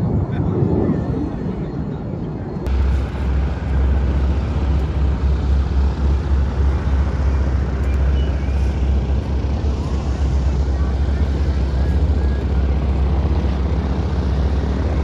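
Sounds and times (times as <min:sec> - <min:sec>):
distant jet engine rumble: 0:00.0 - 0:15.0
wind buffeting microphone: 0:00.0 - 0:15.0.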